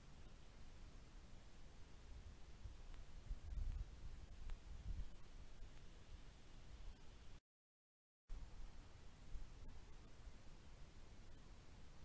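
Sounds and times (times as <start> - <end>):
faint even hiss: 0.0 - 7.4, 8.3 - 12.0.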